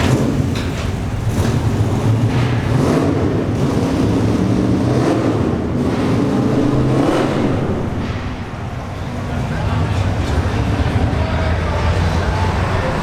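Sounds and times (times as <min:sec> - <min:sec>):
car engine idling with loud exhaust: 0:00.0 - 0:13.0.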